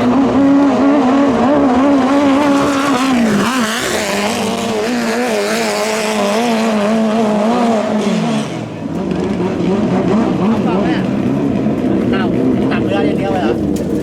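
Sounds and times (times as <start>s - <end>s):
boat engine running hard: 0.0s - 14.0s.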